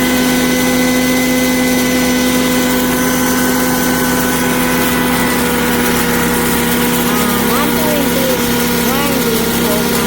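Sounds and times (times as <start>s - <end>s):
electric grain mill humming: 0.0s - 10.0s.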